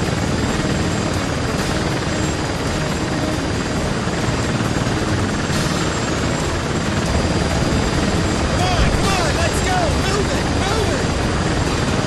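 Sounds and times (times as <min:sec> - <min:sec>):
helicopter rotors and engines: 0:00.0 - 0:12.0.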